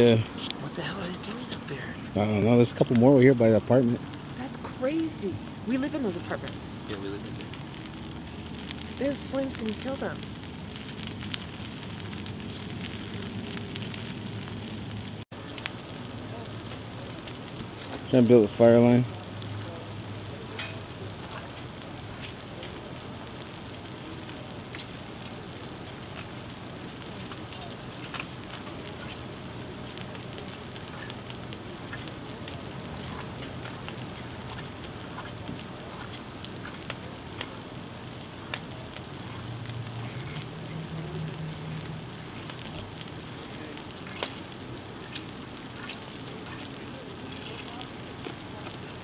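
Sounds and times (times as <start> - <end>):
fire crackles and pops: 0.0 - 49.0
fire hissing: 0.0 - 49.0.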